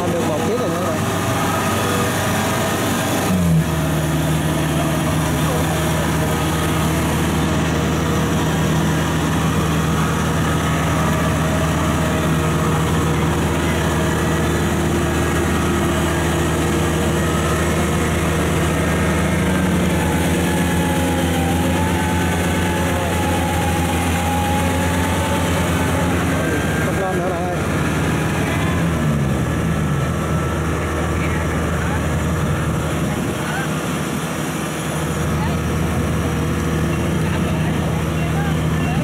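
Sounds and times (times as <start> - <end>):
combine harvester diesel engine: 0.0 - 39.0.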